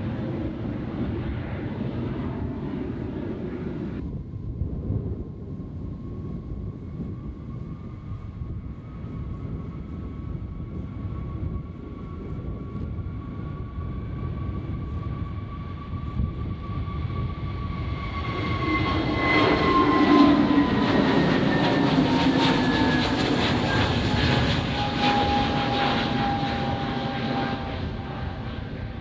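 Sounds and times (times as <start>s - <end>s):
airliner engine whine: 0.0s - 29.0s
jet engine rumble: 0.0s - 29.0s.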